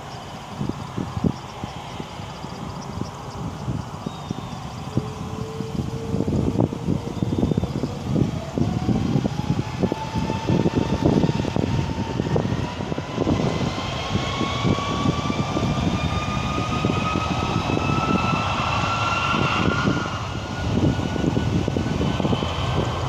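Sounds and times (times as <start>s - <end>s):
jet engines spooling up: 0.0s - 23.0s
wind on microphone: 0.0s - 23.0s.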